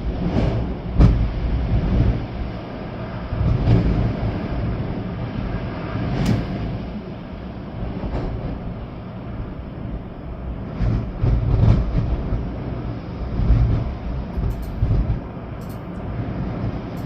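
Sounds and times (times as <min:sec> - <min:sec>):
steady rain: 0:00.0 - 0:17.0
storm wind gusting: 0:00.0 - 0:17.0
wind buffeting microphone: 0:00.0 - 0:17.0.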